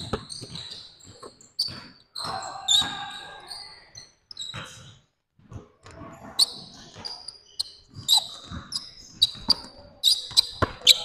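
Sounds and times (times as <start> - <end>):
basketball dribbling on hardwood: 0.0 - 3.1, 4.3 - 11.0
sneakers squeaking: 0.0 - 11.0.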